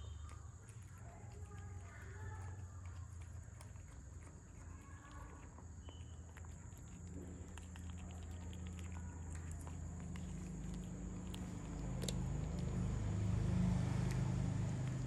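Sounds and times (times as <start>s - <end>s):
cats chewing and licking: 0.0s - 15.0s.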